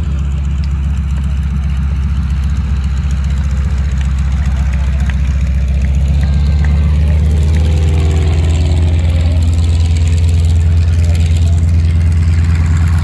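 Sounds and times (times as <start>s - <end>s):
radial engine idling: 0.0s - 13.0s.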